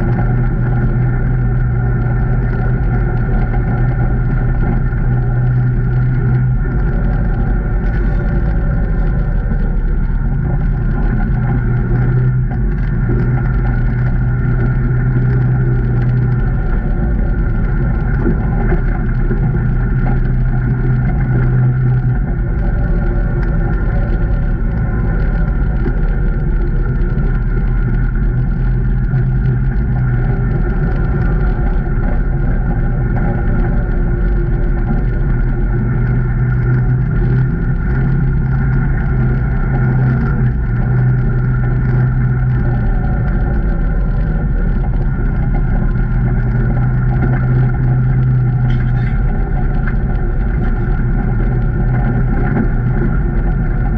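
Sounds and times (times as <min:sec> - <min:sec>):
off-road vehicle engine droning: 0:00.0 - 0:53.9.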